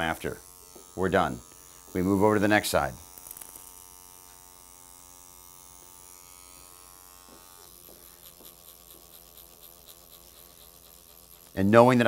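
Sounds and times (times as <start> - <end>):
electric pen buzzing: 0.0 - 12.0.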